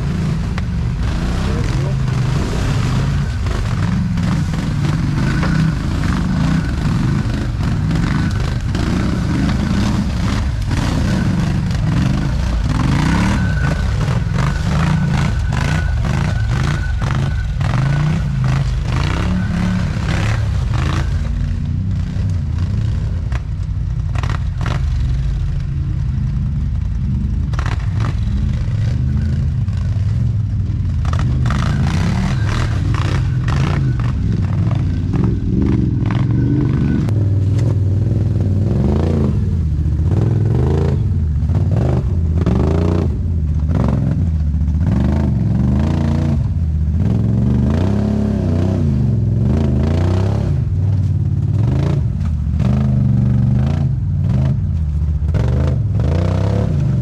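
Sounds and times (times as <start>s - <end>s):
atv engines revving: 0.0s - 57.0s.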